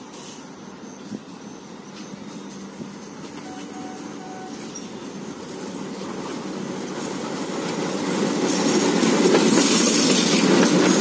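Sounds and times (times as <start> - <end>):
diesel locomotives passing: 0.0 - 11.0
train wheels on rails: 0.0 - 11.0.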